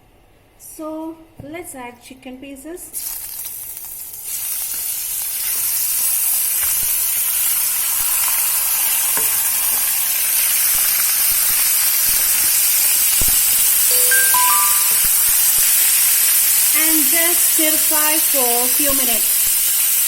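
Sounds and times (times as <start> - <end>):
chicken sizzling in oil: 3.0 - 20.0.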